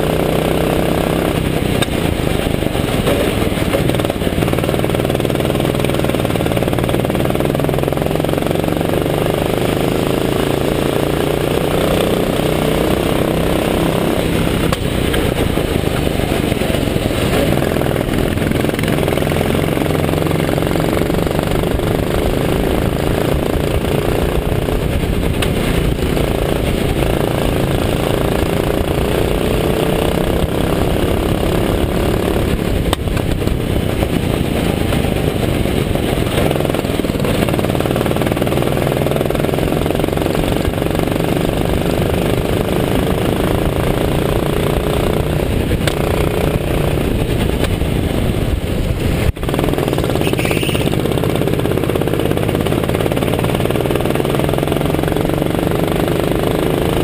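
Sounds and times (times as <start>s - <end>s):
go-kart engine running: 0.0s - 57.0s
steady rushing noise: 0.0s - 57.0s.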